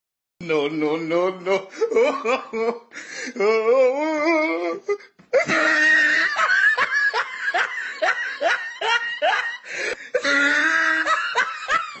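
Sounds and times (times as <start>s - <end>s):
person laughing: 1.7s - 3.6s, 4.2s - 12.0s.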